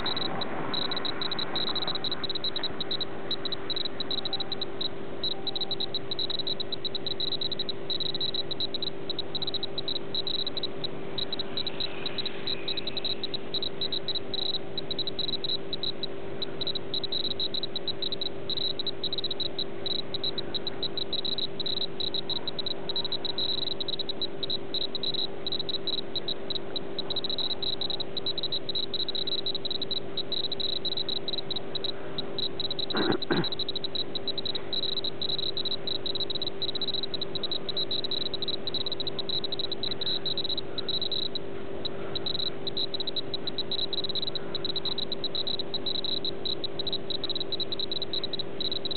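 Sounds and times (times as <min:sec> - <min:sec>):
constant low hum: 0:00.0 - 0:48.9
insects trilling: 0:00.0 - 0:48.9.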